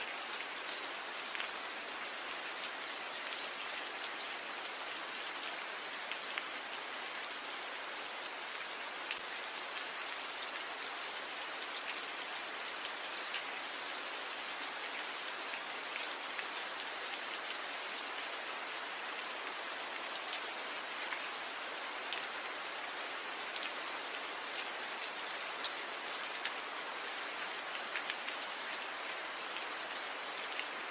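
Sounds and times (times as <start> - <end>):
rain falling on leaves: 0.0 - 30.9.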